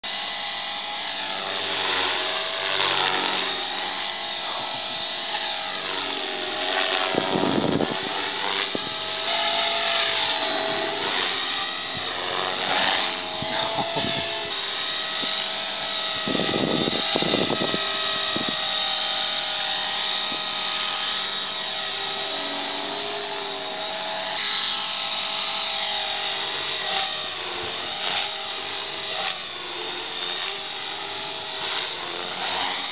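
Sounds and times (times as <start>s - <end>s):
rc helicopter motor whine: 0.0s - 32.9s.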